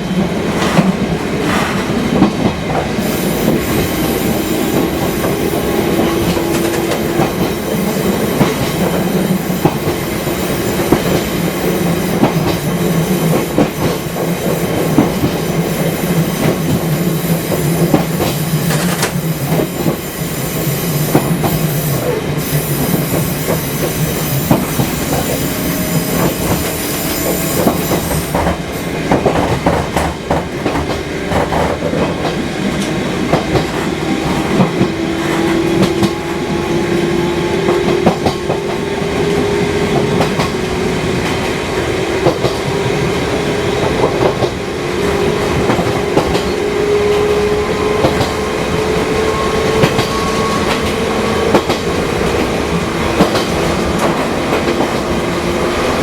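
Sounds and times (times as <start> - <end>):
train rumble and motor hum: 0.0 - 56.0.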